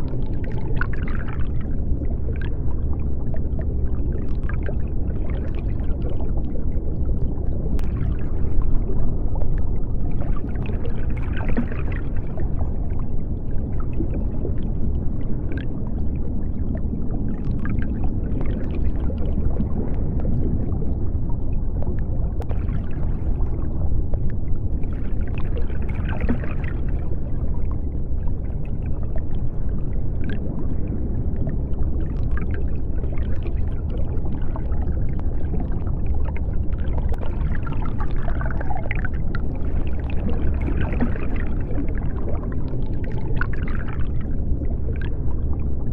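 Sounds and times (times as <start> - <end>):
deep underwater rumble: 0.0 - 45.9
water bubbling and gurgling: 0.0 - 45.9.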